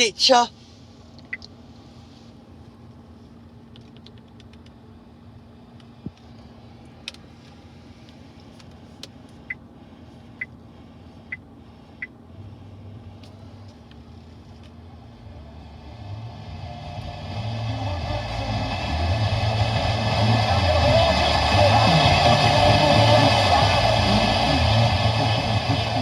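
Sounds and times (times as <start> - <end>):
low cabin hum: 0.0 - 26.0.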